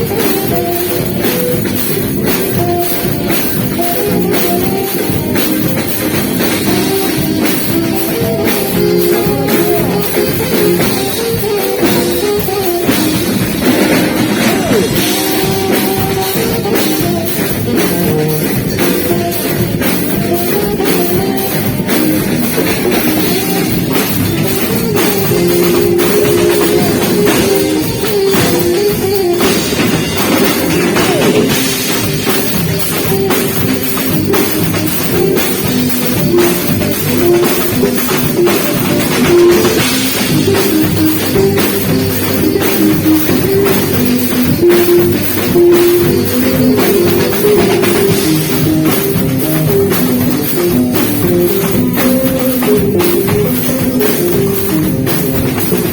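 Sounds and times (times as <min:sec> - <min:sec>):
drum kit beat: 0:00.0 - 0:55.9
saxophone melody: 0:00.0 - 0:55.9.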